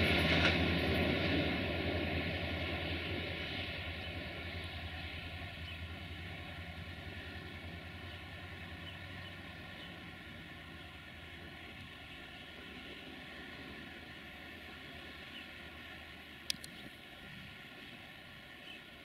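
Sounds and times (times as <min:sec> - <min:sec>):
train coaches rolling: 0:00.0 - 0:16.5
locomotive engine drone: 0:00.0 - 0:19.0.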